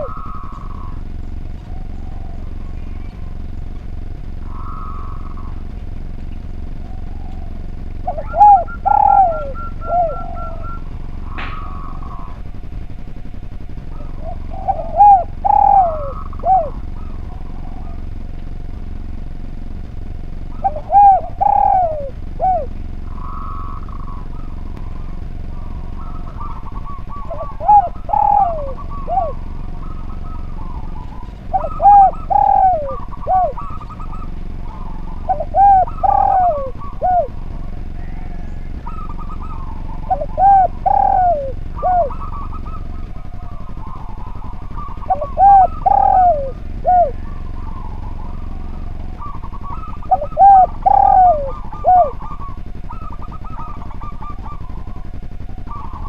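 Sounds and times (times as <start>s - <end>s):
dove cooing: 0.0s - 56.0s
faint bird chirps: 0.0s - 56.0s
steady hum: 0.0s - 56.0s.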